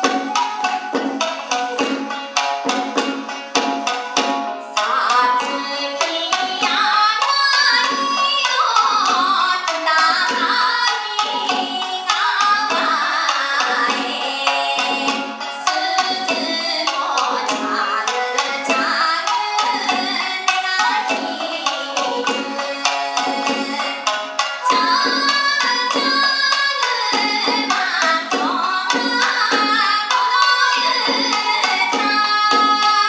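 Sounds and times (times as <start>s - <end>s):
bamboo flute: 0.0s - 33.0s
drum: 0.0s - 33.0s
plucked shamisen: 0.0s - 33.0s
woman singing folk song: 4.6s - 33.0s.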